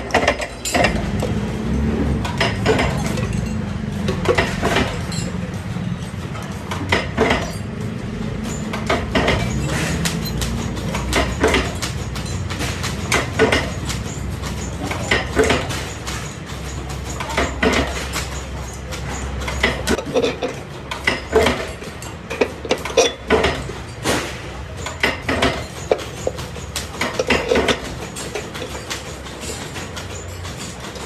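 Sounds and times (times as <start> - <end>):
metal parts clinking: 0.0 - 31.0.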